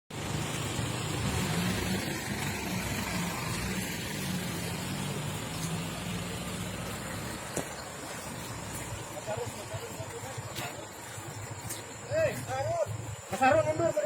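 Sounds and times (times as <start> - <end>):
vehicle engine running: 0.1 - 13.6.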